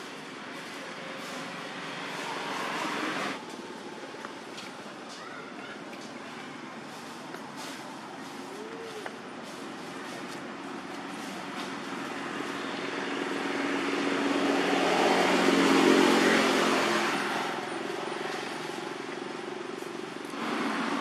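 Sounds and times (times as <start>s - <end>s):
vehicle engine hum passing by: 0.0s - 3.5s, 6.3s - 21.0s.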